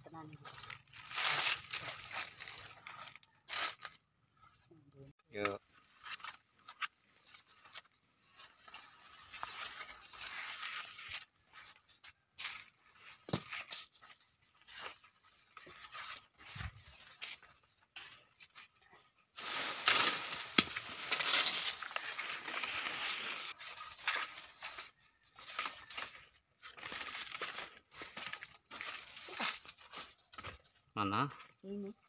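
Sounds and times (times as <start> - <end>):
dry leaves rustling: 0.1 - 4.0, 5.7 - 30.8.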